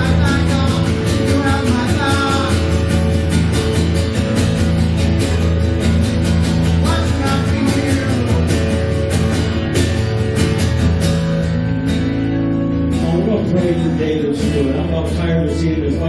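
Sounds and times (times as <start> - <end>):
guitar playing: 0.0 - 16.0.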